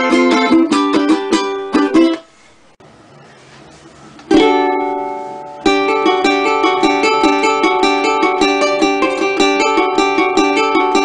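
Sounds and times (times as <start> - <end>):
ukulele chord ringing: 0.0 - 2.2, 4.3 - 11.0
ukulele strumming: 0.0 - 2.5, 4.3 - 11.0.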